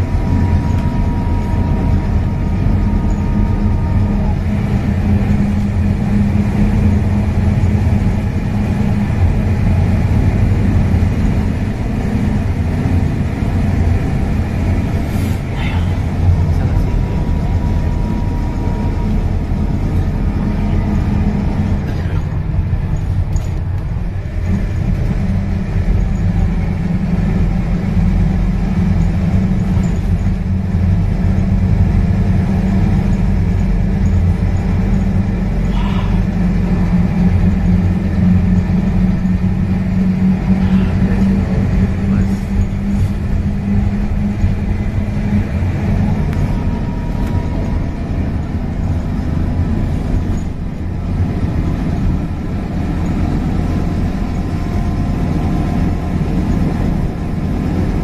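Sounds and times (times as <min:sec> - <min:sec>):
bus diesel engine running: 0:00.0 - 0:58.0
road rumble: 0:00.0 - 0:58.0.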